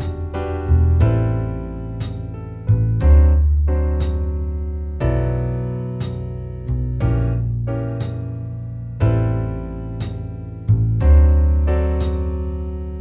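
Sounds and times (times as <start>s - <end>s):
bass holding low notes: 0.0s - 13.0s
piano chords: 0.0s - 13.0s.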